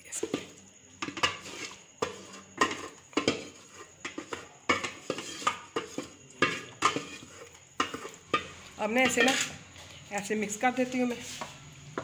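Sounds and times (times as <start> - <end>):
spoon scraping cooking pot: 0.2 - 12.0.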